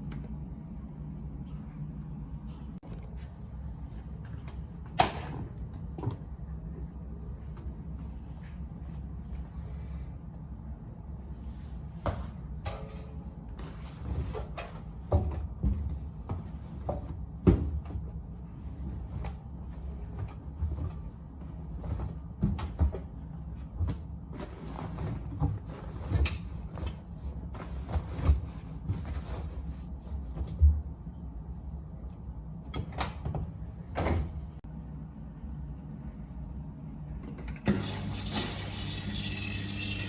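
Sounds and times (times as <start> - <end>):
washing machine motor hum: 3.1 - 34.7, 35.4 - 40.0.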